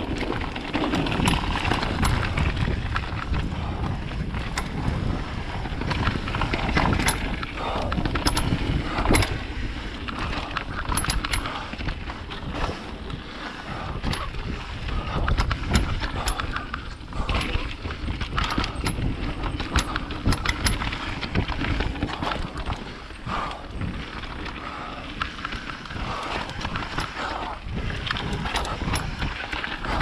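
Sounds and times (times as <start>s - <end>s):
bike clicks and rattles: 0.0s - 30.0s
bike tyre noise: 0.0s - 30.0s
wind: 0.0s - 30.0s.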